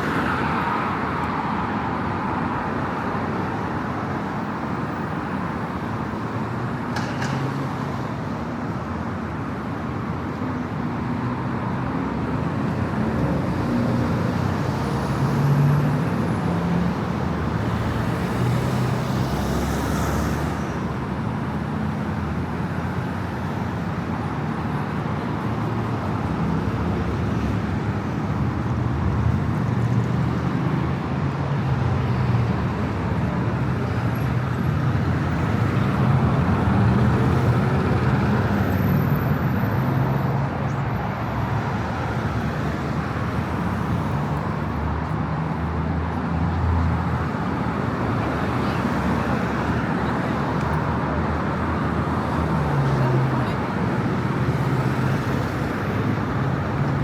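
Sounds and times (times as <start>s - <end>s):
cars and buses passing: 0.0s - 57.0s.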